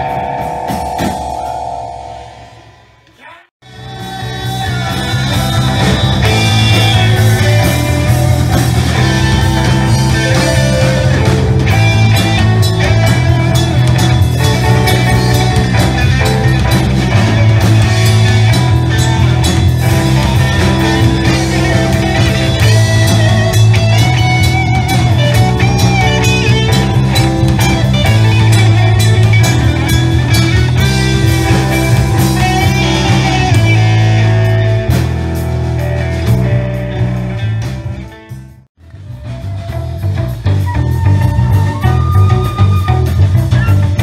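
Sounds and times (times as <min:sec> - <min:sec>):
bass guitar: 0:00.0 - 0:44.0
drum kit: 0:00.0 - 0:44.0
electric guitar: 0:00.0 - 0:44.0
keyboards: 0:00.0 - 0:44.0.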